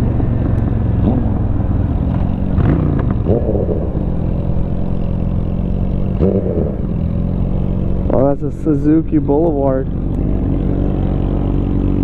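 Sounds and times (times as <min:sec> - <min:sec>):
v-twin motorcycle engine running: 0:00.0 - 0:12.0.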